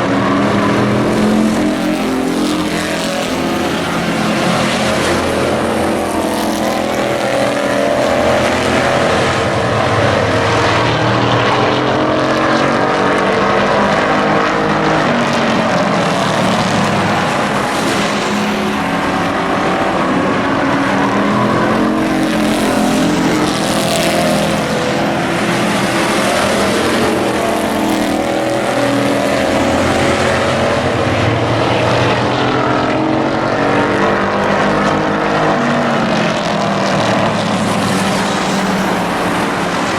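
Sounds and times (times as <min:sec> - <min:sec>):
race truck engines passing: 0:00.0 - 0:39.9.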